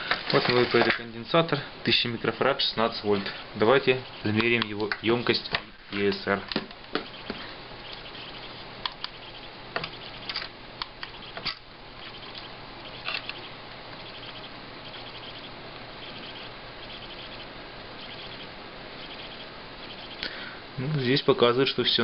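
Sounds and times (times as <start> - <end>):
background hiss and hum: 0.0 - 22.0.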